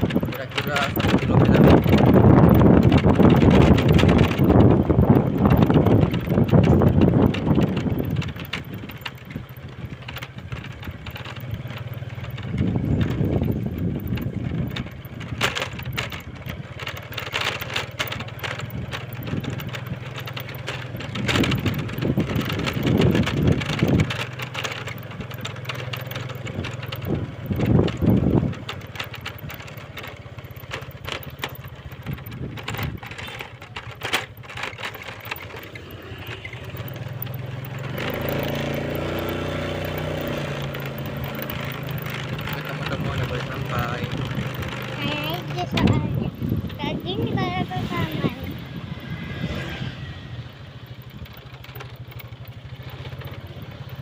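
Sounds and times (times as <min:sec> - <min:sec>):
wind buffeting microphone: 0:00.0 - 0:17.0, 0:18.0 - 0:35.6, 0:36.3 - 0:52.8
scooter engine humming: 0:00.0 - 0:54.0.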